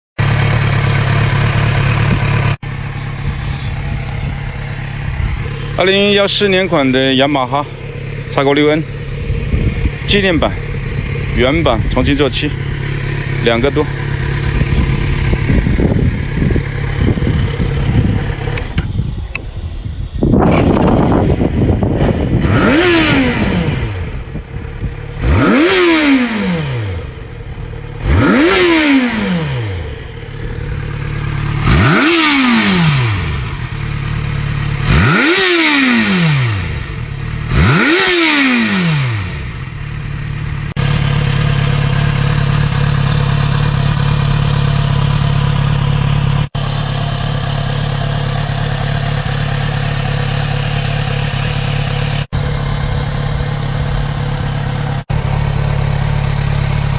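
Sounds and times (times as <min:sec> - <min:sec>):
motorcycle engine revving and idling: 0:00.2 - 0:56.9.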